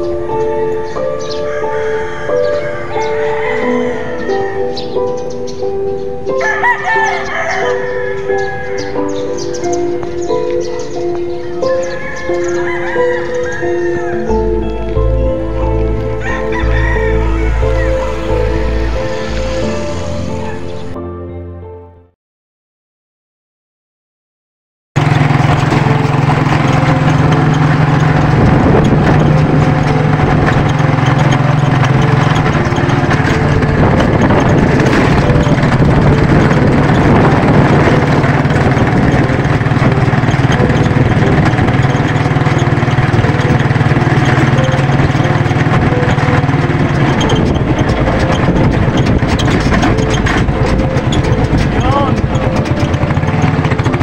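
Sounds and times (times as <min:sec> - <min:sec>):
vehicle engine humming: 0:00.0 - 0:21.0, 0:25.0 - 0:54.0.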